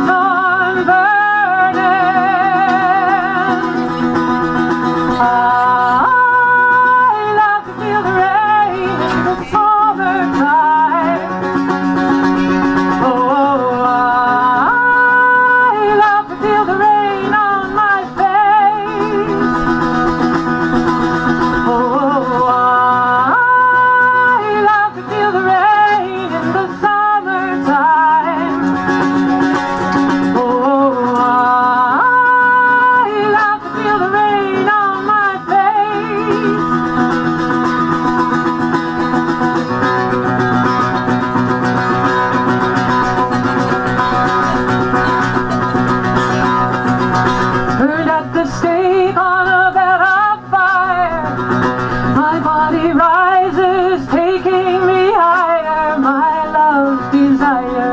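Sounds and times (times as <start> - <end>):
strummed stringed instrument: 0.0 - 57.9
woman singing: 0.0 - 57.9.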